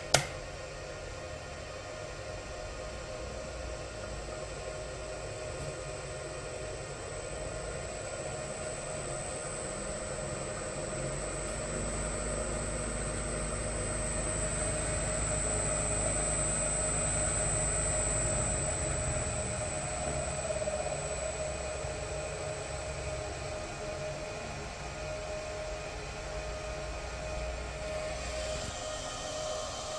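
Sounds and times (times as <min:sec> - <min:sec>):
electric motor whining: 0:02.4 - 0:29.9.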